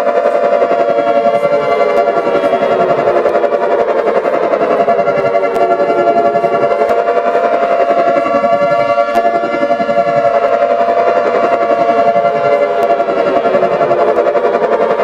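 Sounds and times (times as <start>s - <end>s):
falling siren-like sweeps: 0.0s - 15.0s
layered electronic alarm tones: 0.0s - 15.0s.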